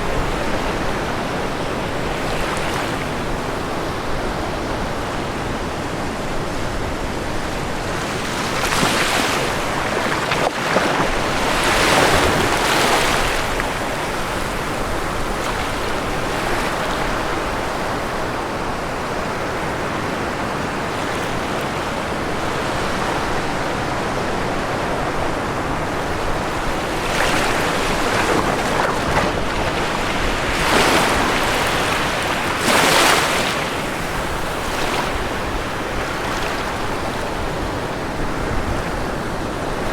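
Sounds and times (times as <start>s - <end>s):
ocean waves crashing on shore: 0.0s - 39.9s.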